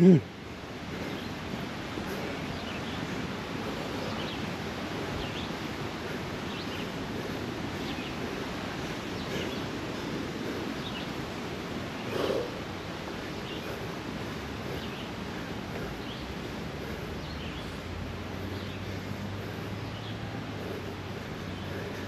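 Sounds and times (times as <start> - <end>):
creek water flowing over rocks: 0.0 - 22.0.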